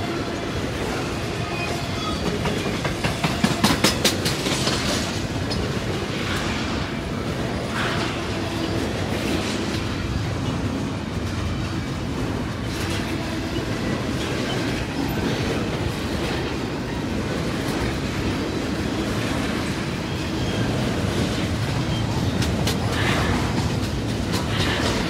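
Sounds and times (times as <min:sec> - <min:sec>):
clickety-clack over rail joints: 0:00.0 - 0:25.0
freight train wheels rumbling: 0:00.0 - 0:25.0.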